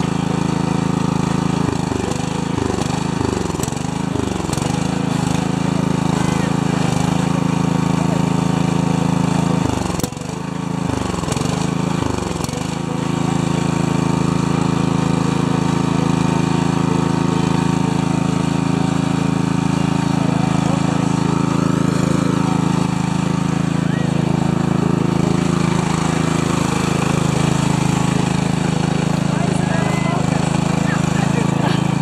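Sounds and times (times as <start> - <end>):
lawn tractor engine running: 0.0 - 32.0.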